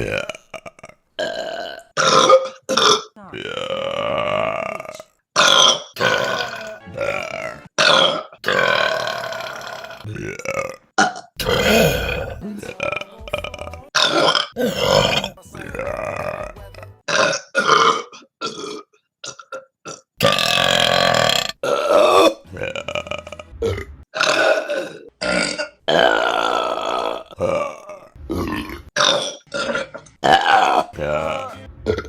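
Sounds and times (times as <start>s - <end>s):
women burping: 0.0s - 32.0s.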